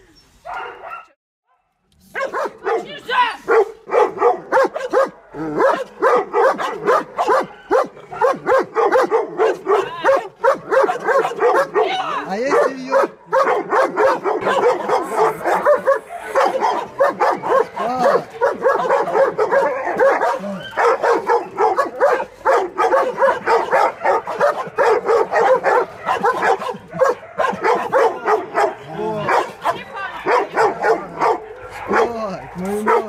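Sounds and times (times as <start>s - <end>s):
dogs barking and yelping: 0.4s - 1.2s, 2.1s - 33.0s.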